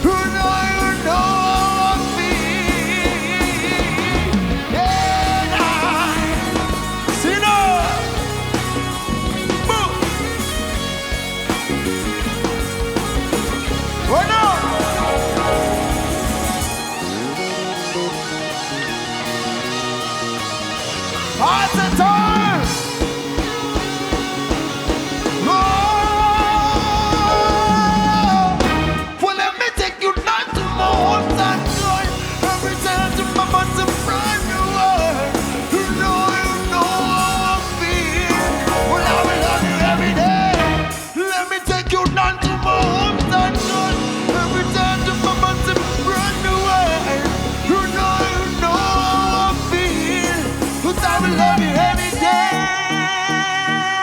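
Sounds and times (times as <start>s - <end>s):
bending melodic lead line: 0.0s - 29.2s, 30.7s - 41.2s, 42.4s - 54.0s
live band music: 0.0s - 54.0s.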